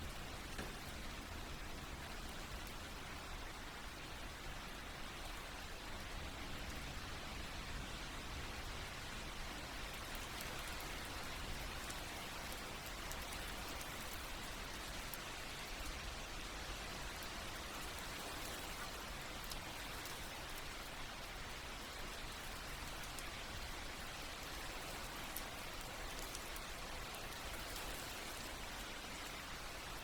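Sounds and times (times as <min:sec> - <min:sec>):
steady rain pattering: 0:00.0 - 0:30.0.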